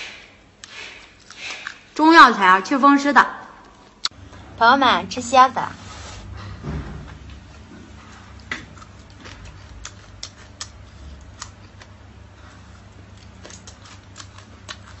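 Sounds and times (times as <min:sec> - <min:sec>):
low steady hum: 0:00.3 - 0:15.0.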